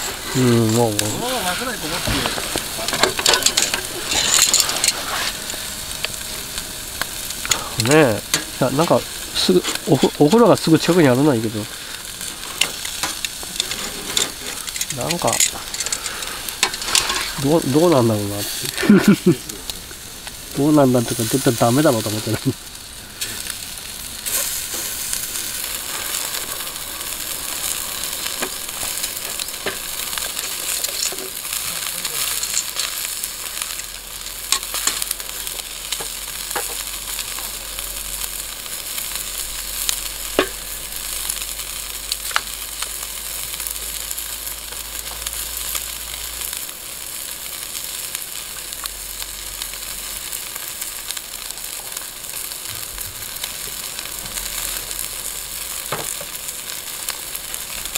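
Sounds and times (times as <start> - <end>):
sharp pops of grilling: 0.0 - 57.9
skewers sizzling over charcoal grill: 0.0 - 57.9.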